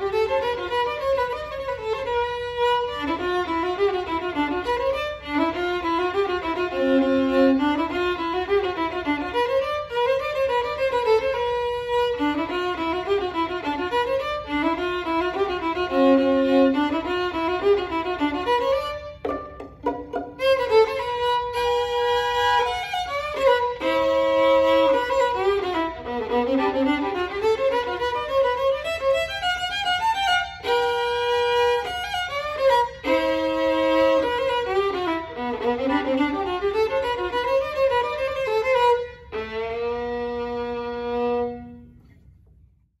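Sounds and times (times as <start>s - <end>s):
solo violin melody: 0.0s - 42.1s.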